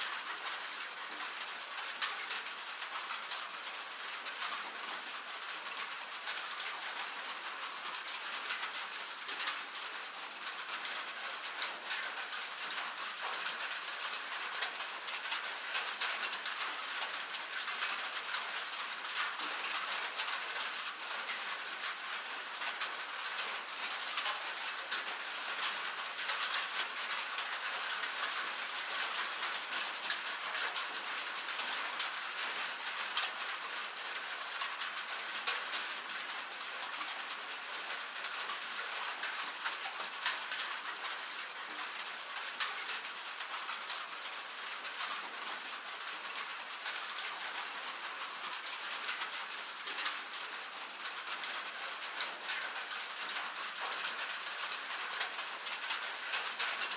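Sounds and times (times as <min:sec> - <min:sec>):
rain on a metal roof: 0:00.0 - 0:56.9.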